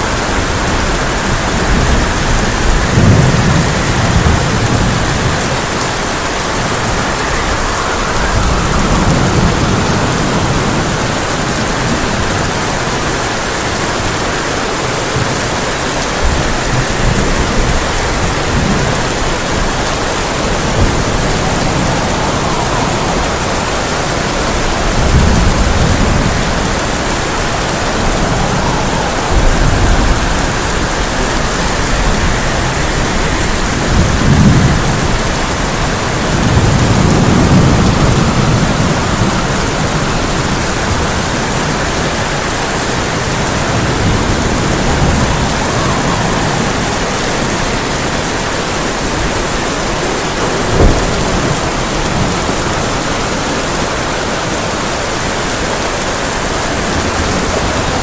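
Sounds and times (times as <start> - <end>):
heavy rain on a tin roof: 0.0 - 58.0
low thunder rumbling: 0.0 - 58.0.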